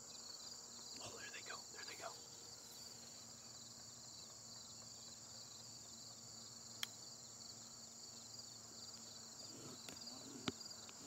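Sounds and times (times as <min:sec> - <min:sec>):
crickets and insects chirring: 0:00.0 - 0:11.0.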